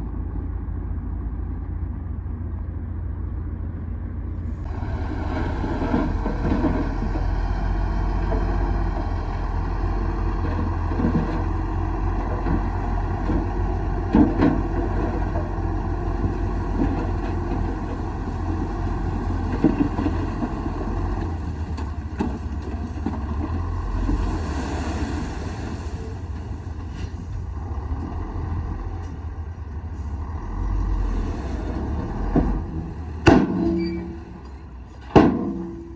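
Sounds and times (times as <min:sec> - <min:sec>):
bulldozer diesel engine running: 0:00.0 - 0:35.9.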